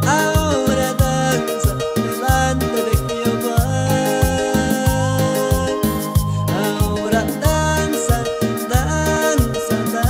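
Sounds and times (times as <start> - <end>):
upbeat latin-style music: 0.0 - 10.0.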